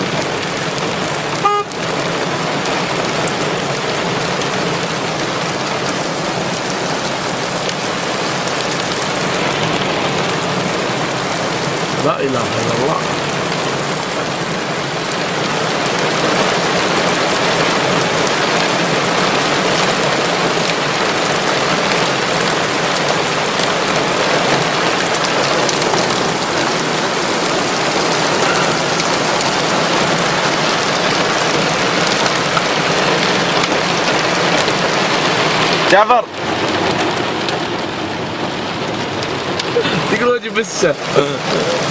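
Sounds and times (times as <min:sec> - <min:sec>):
rain on vehicle roof: 0:00.0 - 0:41.9.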